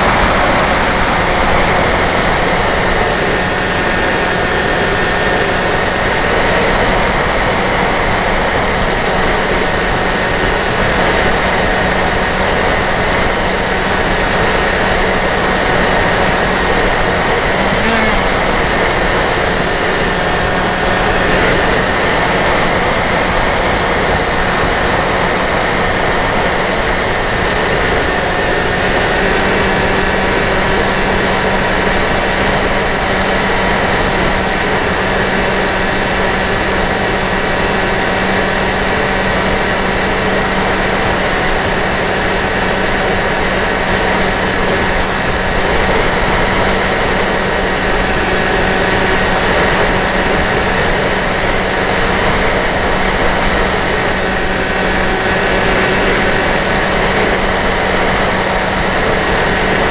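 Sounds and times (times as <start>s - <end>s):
electric motor and propeller: 0.0s - 59.9s.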